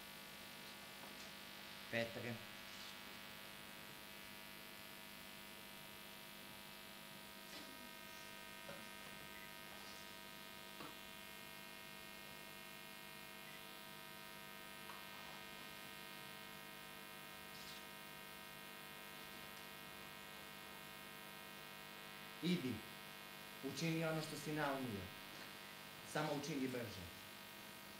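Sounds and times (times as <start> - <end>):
electrical hum: 0.2 - 27.9.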